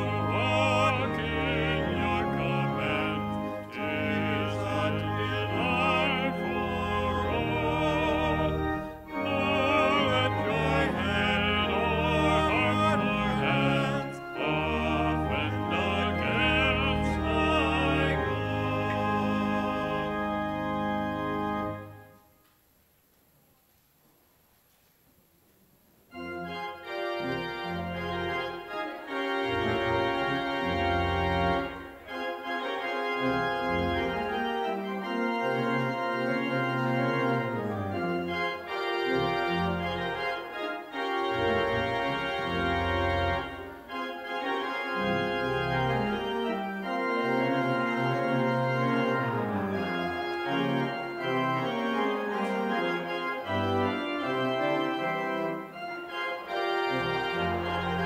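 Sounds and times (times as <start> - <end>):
pipe organ chords: 0.0 - 22.3, 26.1 - 58.0.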